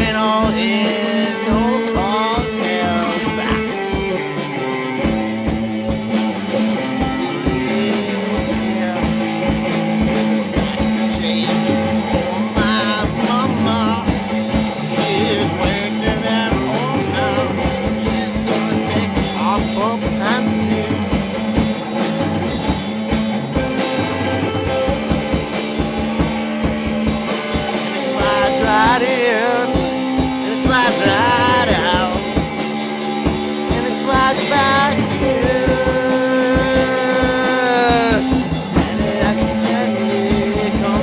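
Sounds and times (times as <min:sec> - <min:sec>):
drum beat: 0:00.0 - 0:41.0
sliding guitar notes: 0:00.0 - 0:41.0.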